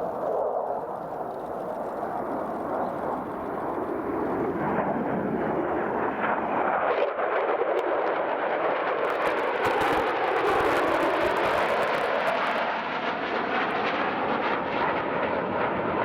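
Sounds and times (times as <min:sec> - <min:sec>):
jet engine roaring flyby: 0:00.0 - 0:16.0.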